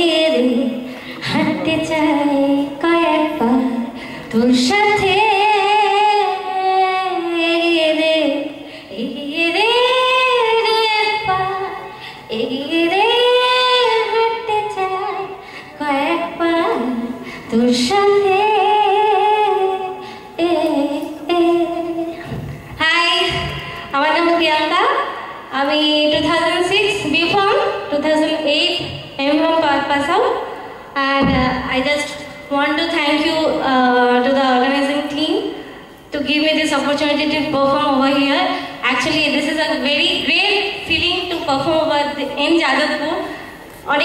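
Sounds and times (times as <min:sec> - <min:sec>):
woman singing with vibrato: 0:00.0 - 0:35.5.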